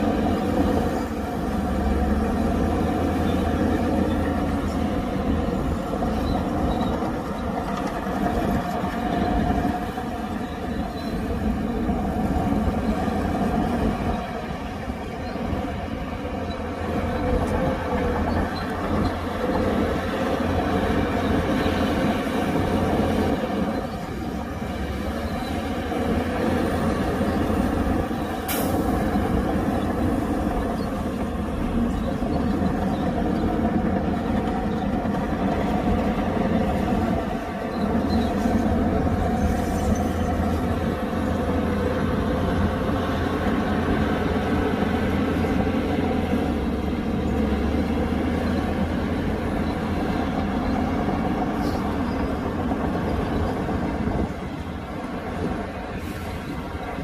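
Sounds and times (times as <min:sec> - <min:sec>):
diesel earthmoving machinery running: 0:00.0 - 0:57.0.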